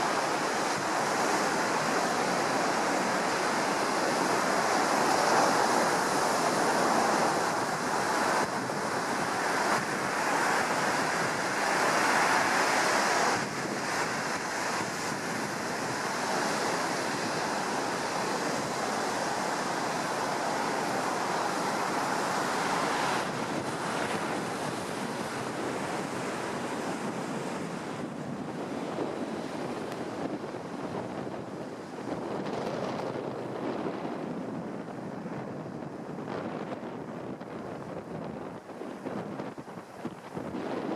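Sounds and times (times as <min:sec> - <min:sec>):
surf breaking and washing in: 0:00.0 - 0:40.9
wind buffeting microphone: 0:00.0 - 0:40.9.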